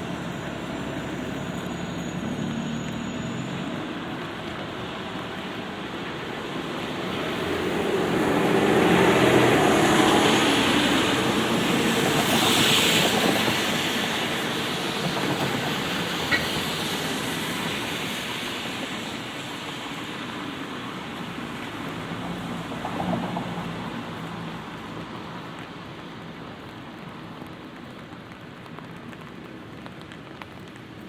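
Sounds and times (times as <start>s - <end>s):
light rain falling: 0.0s - 31.0s
vehicle passing on wet street: 0.0s - 31.0s.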